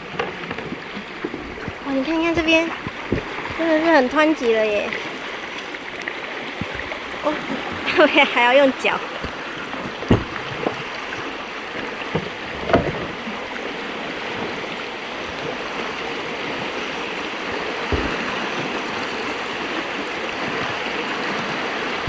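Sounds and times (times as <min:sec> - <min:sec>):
dull knocks on canoe: 0:00.0 - 0:22.0
river rapids rushing: 0:00.0 - 0:22.0.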